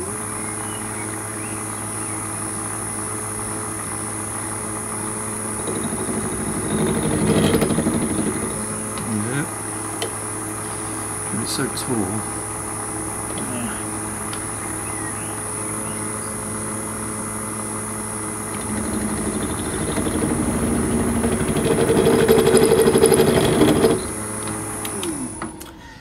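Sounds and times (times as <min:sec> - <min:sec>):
milling spindle whine: 0:00.0 - 0:26.0.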